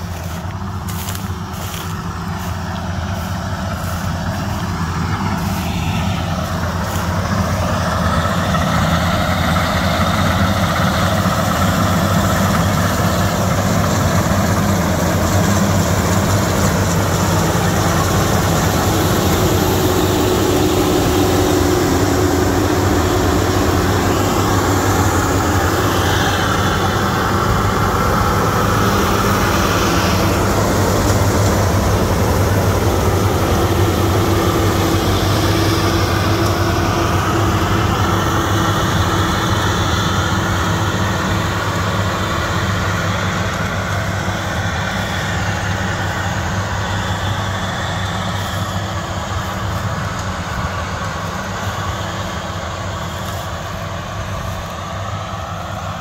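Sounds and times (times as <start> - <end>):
combine harvester engine drone: 0.0 - 56.0
high machinery whine: 0.0 - 56.0.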